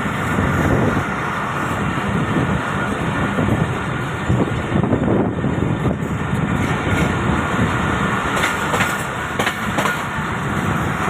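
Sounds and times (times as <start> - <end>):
rail joint clacks: 0.0 - 11.0
train wheels rumbling on track: 0.0 - 11.0.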